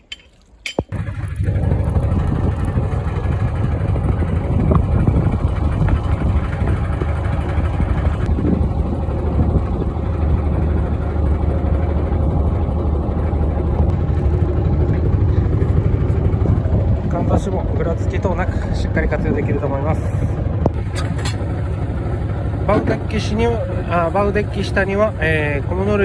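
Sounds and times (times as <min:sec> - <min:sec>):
boat engine idling: 0:00.8 - 0:26.0.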